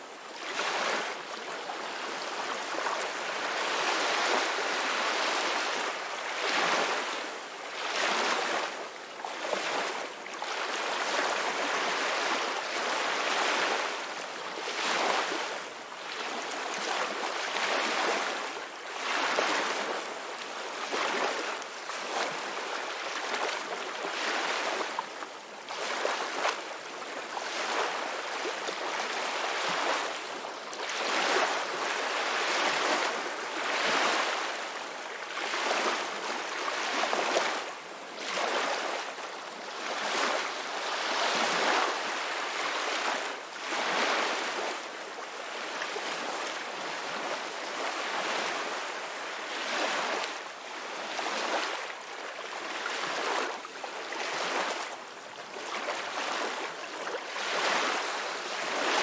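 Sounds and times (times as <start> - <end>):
ocean waves washing onto shore: 0.0 - 59.0.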